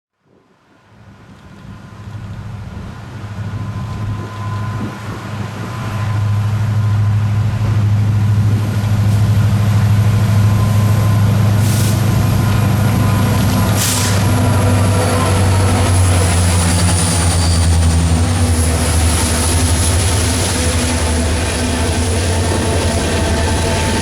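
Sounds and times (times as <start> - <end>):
diesel locomotive engine pulsing hum: 1.0 - 24.0.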